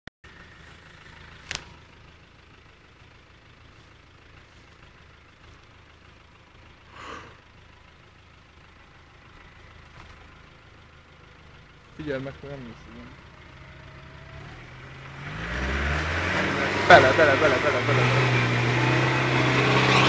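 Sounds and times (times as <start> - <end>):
off-road vehicle engine running: 0.2 - 20.0.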